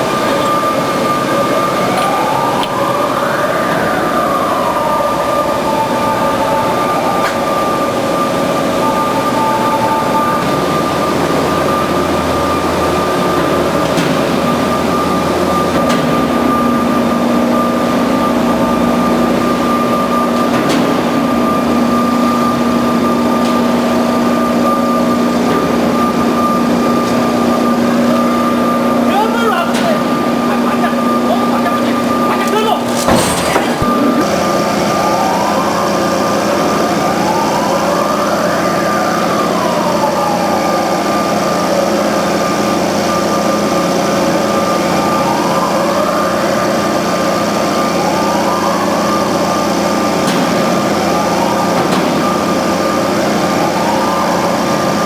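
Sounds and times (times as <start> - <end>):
band saw whining: 0.0 - 55.0.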